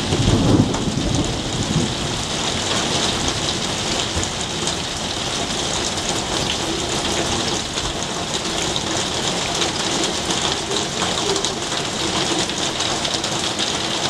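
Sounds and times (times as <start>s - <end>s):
raindrop hits: 0.0s - 14.0s
steady rain falling: 0.0s - 14.0s.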